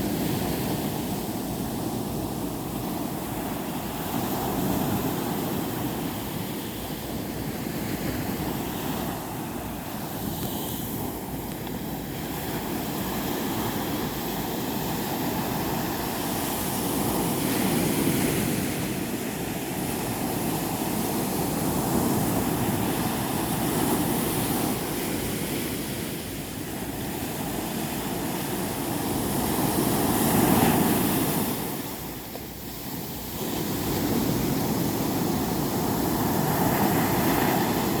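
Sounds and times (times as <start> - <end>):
surf washing onto beach: 0.0 - 38.0.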